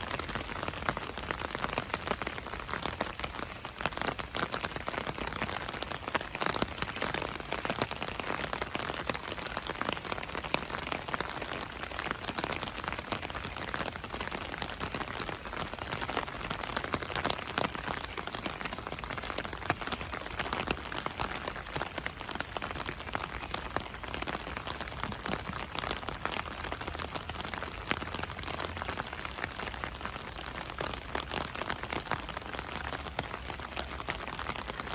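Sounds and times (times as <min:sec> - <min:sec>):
raindrops ticking on surfaces: 0:00.0 - 0:34.9
steady rain hiss: 0:00.0 - 0:34.9.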